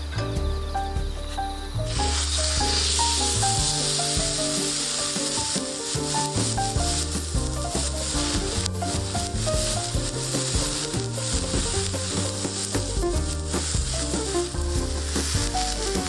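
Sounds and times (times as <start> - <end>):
background music with bass: 0.0 - 16.0
food sizzling in a pan: 1.6 - 16.0.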